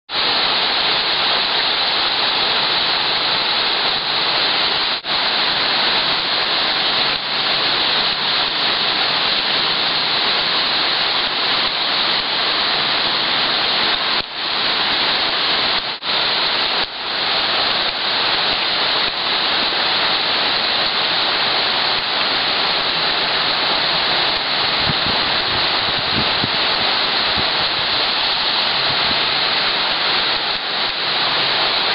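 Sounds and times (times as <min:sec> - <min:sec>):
heavy rain pouring: 0:00.1 - 0:31.9.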